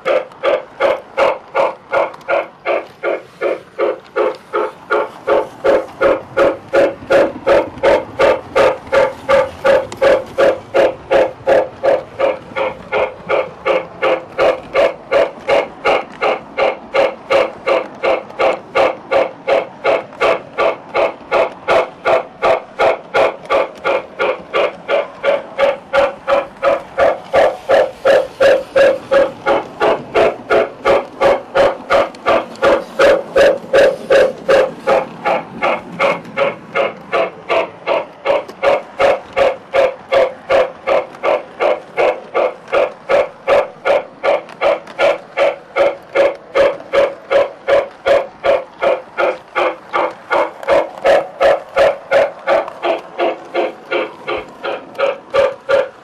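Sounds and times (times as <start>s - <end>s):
model steam train chuffing: 0.0s - 56.0s.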